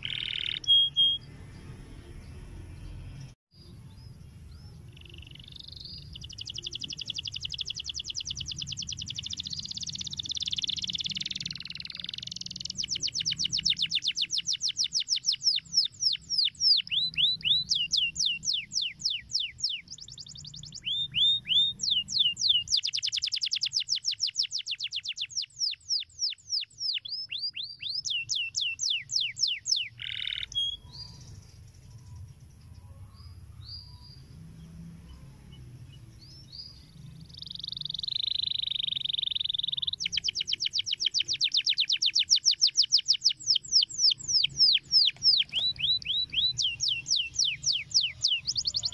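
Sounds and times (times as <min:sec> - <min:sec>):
canary singing fast trills: 0:00.0 - 0:48.9.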